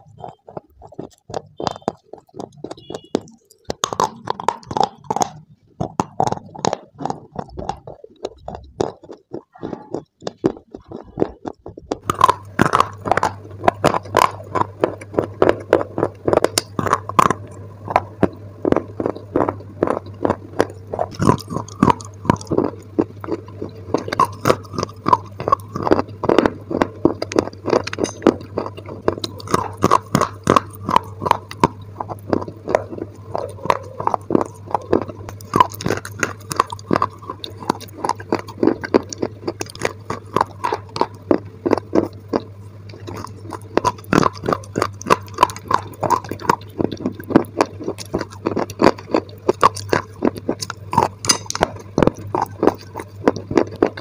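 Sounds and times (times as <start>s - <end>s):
chewing crisp crunches: 0.0s - 54.0s
low steady hum: 0.0s - 54.0s.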